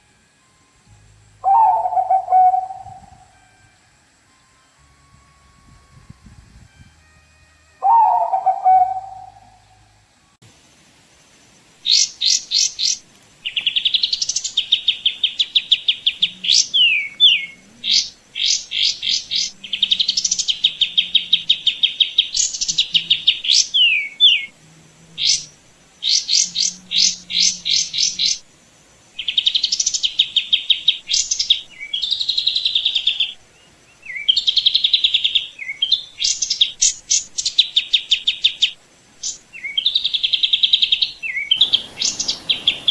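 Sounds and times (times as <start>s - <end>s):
songbird chirping and trilling: 0.0s - 7.0s, 7.8s - 10.0s, 11.8s - 42.9s.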